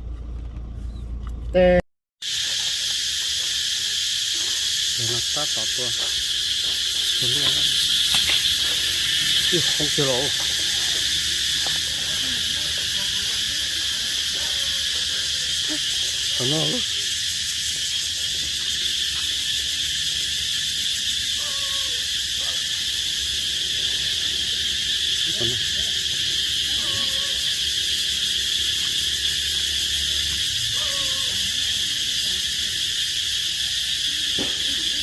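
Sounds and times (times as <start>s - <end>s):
insects chorus high-pitched drone: 1.6s - 35.0s.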